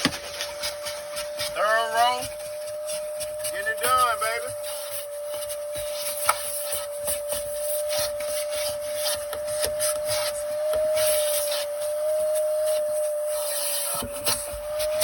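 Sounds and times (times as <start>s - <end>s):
nozzle scraping and knocking floor: 0.0s - 15.0s
vacuum cleaner whining: 0.0s - 15.0s.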